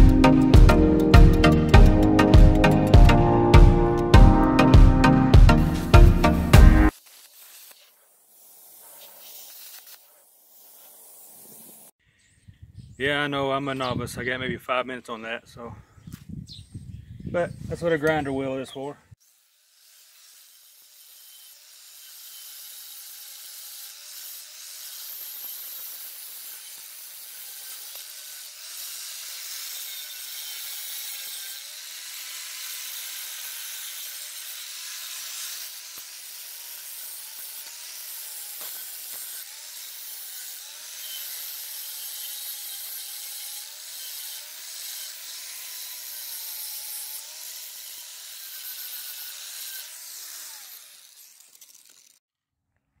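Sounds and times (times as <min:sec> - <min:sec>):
angle grinder grinding metal: 0:00.0 - 0:11.9, 0:17.8 - 0:52.2.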